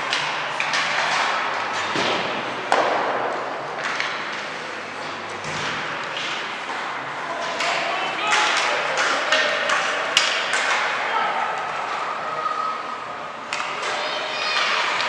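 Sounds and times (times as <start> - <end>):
hockey sticks and puck knocking: 0.0 - 12.0, 13.4 - 15.0
crowd noise: 0.0 - 15.0.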